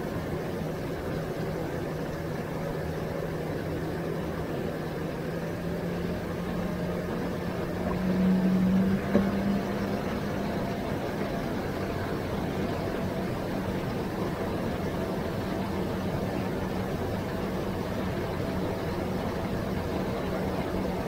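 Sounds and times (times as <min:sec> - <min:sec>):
outboard motor running: 0:00.0 - 0:21.0
wind and water rushing: 0:00.0 - 0:21.0.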